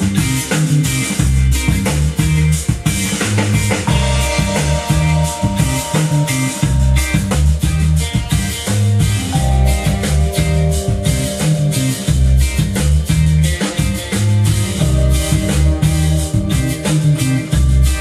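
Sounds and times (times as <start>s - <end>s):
instrumental rock music: 0.0s - 18.0s.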